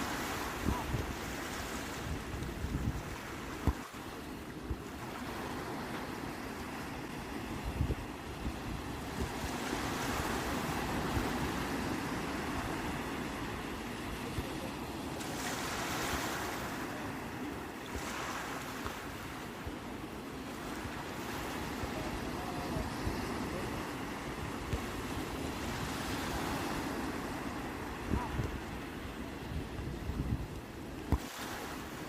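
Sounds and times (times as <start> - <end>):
wind rumbling on microphone: 0.0 - 16.8, 20.6 - 32.0
sea waves breaking: 0.0 - 32.0.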